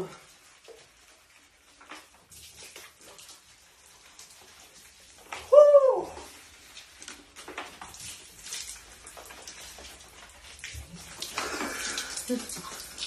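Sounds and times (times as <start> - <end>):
water splashing into sink: 1.5 - 13.0.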